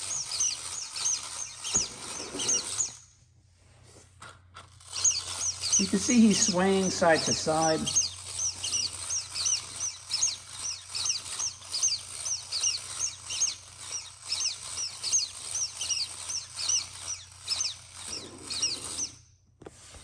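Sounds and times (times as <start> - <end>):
clockwork mechanism clatter: 0.0 - 3.1, 4.2 - 19.2
toy squeaker squeaks: 0.0 - 3.1, 4.8 - 19.2.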